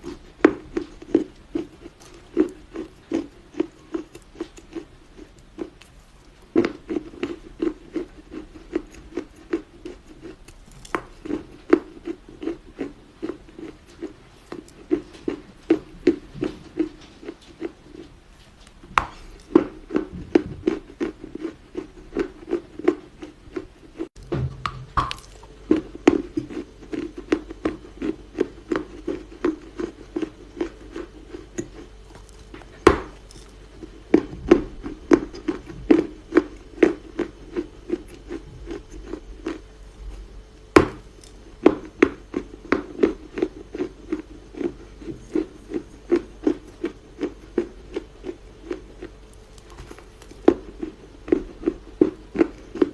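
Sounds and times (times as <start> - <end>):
soft crunches of chewing clay: 0.0 - 24.2, 25.0 - 52.9.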